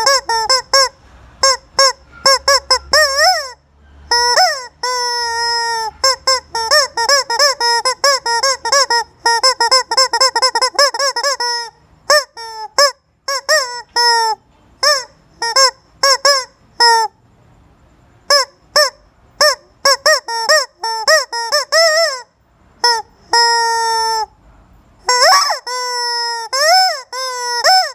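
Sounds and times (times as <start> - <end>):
rubber chicken squeeze toy squawking: 0.0 - 17.2, 18.3 - 24.4, 25.0 - 27.9.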